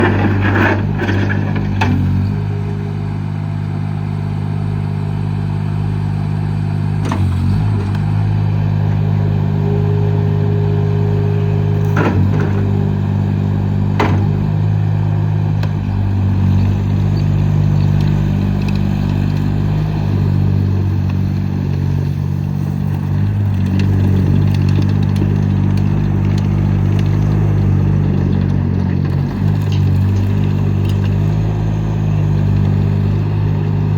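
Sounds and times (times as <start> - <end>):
loader diesel engine running: 0.0 - 33.9.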